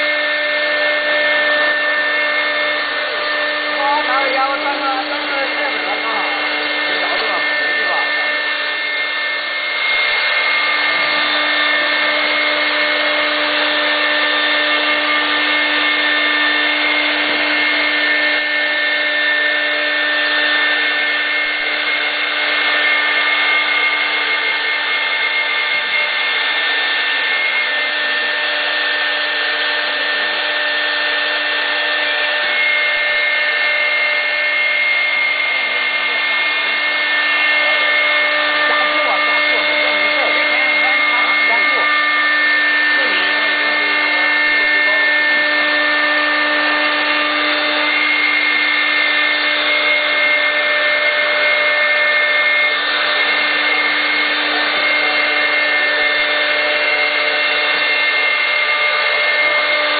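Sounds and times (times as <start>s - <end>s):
router bit cutting wood: 0.0s - 59.9s
wood router spindle whine: 0.0s - 59.9s.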